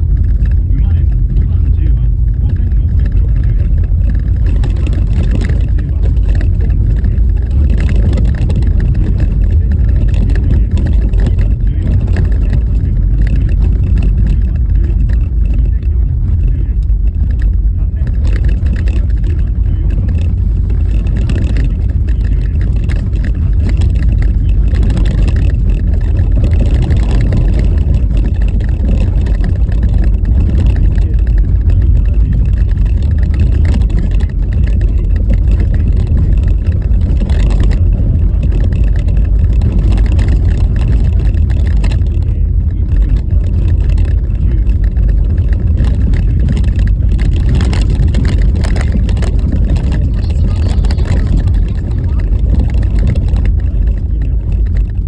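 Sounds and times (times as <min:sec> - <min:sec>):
tyre and road rumble: 0:00.0 - 0:55.0
wind: 0:00.0 - 0:55.0.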